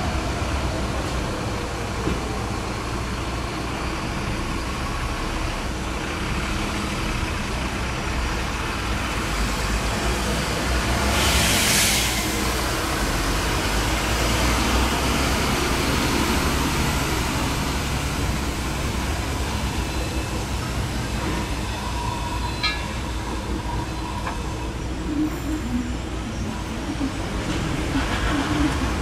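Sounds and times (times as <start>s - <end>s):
buses and cars passing: 0.0s - 29.0s
garbage truck pulling away: 0.0s - 29.0s
low traffic rumble: 0.0s - 29.0s.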